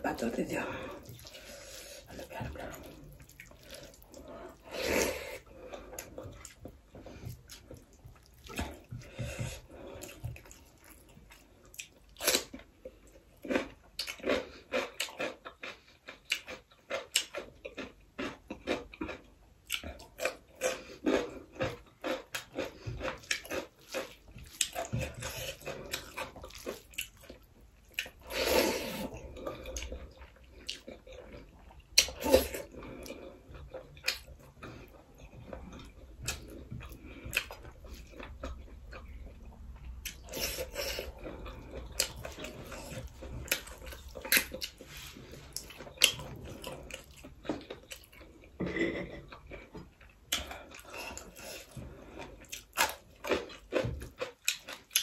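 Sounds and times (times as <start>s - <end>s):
wet chewing and lip smacking: 0.9s - 4.7s, 5.4s - 28.3s, 28.9s - 48.6s, 49.3s - 55.0s.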